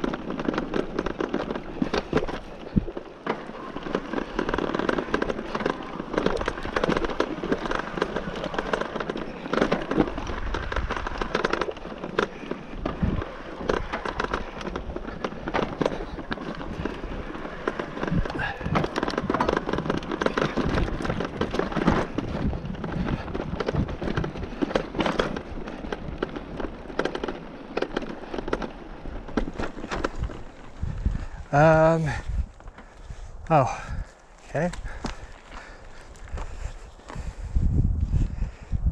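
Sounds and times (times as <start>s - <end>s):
tyres crunching on gravel: 0.0s - 37.5s
bike clattering over bumps: 0.0s - 37.6s.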